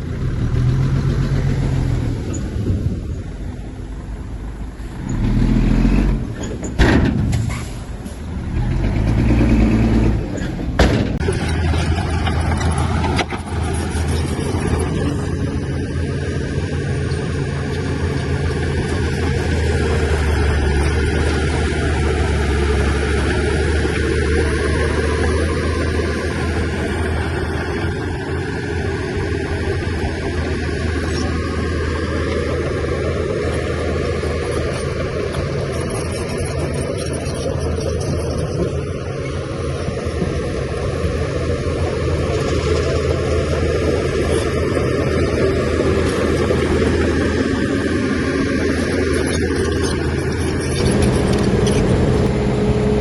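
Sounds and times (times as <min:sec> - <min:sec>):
heavy diesel engine under load: 0:00.0 - 0:53.0.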